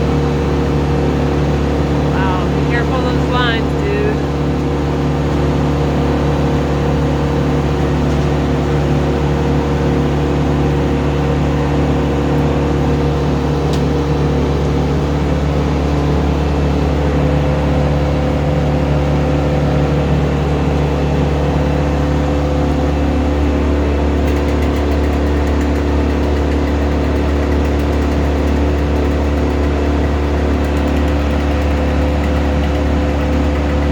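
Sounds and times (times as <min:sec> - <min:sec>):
large engine humming: 0:00.0 - 0:33.9.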